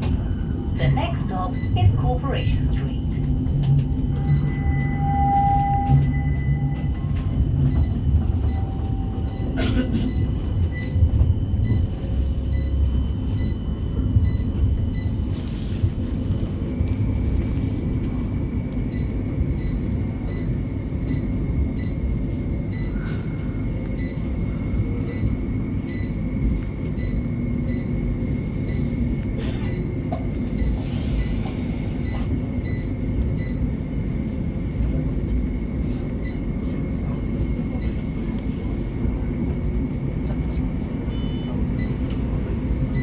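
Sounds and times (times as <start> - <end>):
constant high whine: 0.0 - 43.0
tram interior low rumble: 0.0 - 43.0.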